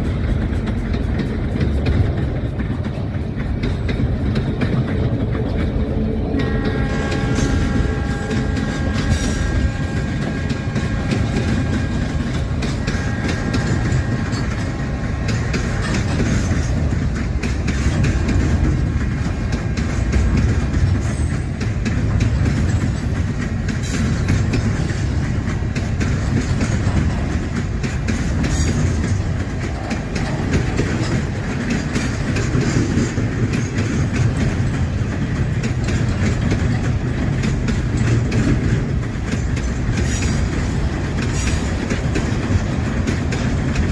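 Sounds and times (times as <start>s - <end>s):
train rumble: 0.0s - 43.9s
train wheels clacking over rail joints: 0.0s - 43.9s.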